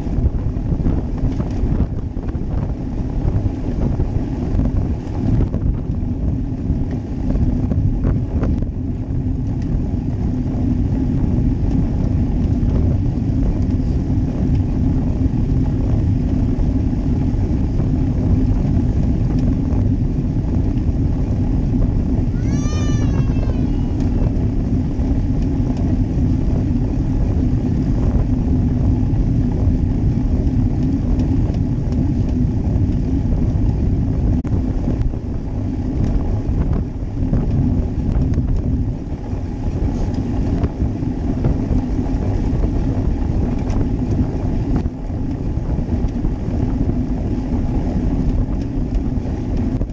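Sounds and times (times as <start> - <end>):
bike tyre and road noise: 0.0 - 49.9
wind rush on microphone: 0.0 - 49.9.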